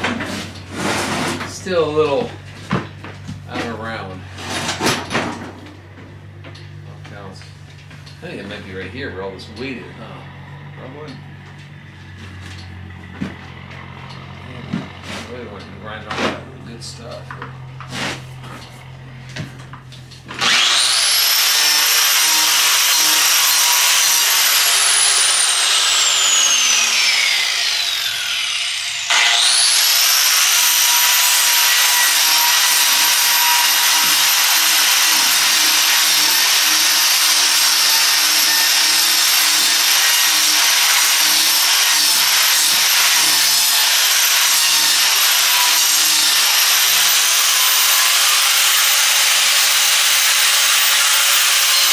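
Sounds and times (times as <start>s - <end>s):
electric grinder whining: 8.0s - 16.1s, 16.8s - 51.9s.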